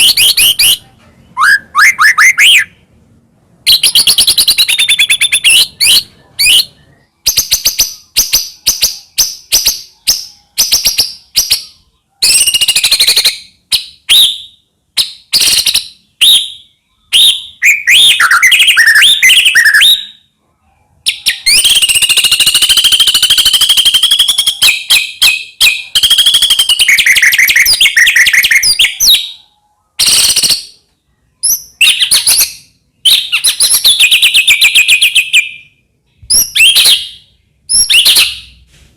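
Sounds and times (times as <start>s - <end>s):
bird singing varied song: 0.0s - 3.0s, 3.6s - 38.6s.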